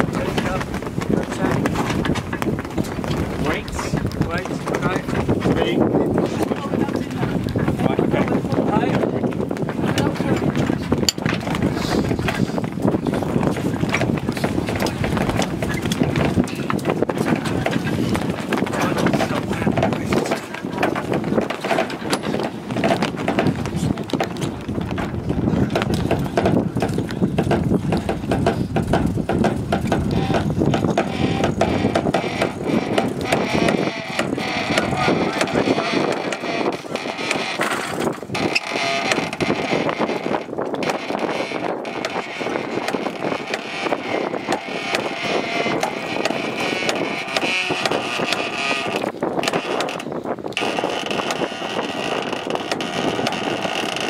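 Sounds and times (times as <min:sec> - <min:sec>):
sail and rigging flapping: 0:00.0 - 0:54.0
wind on microphone: 0:00.0 - 0:54.0.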